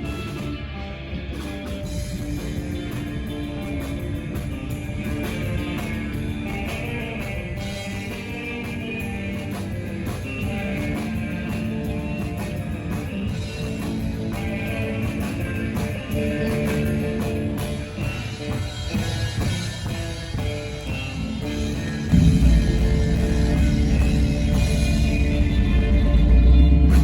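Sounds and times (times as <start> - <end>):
surf rock band playing: 0.0 - 27.0.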